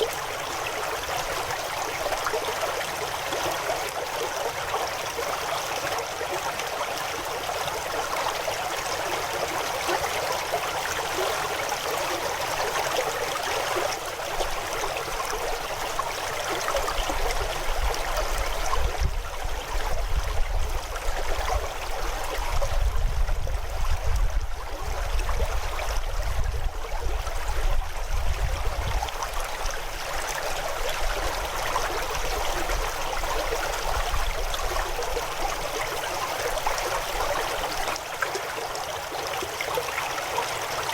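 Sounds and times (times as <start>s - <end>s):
river water splashing over rocks: 0.0s - 40.9s.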